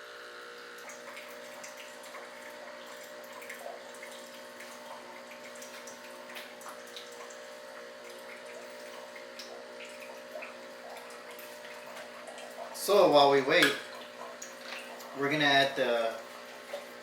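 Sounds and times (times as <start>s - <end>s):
coffee machine pump humming: 0.0s - 17.0s
water trickling and dripping: 0.6s - 17.0s.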